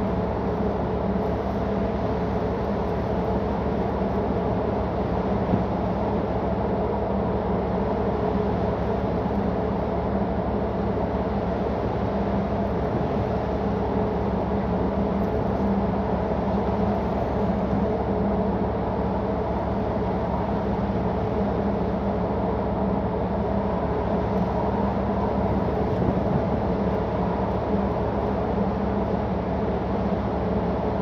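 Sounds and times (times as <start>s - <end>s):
ship engine drone: 0.0s - 31.0s.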